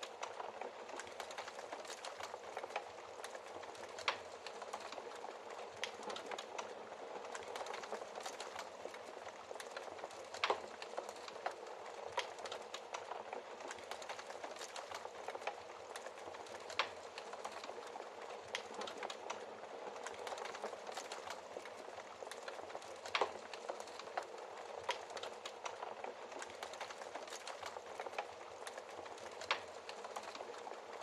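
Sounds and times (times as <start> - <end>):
fire popping: 0.0 - 31.0
wood fire crackling: 0.0 - 31.0.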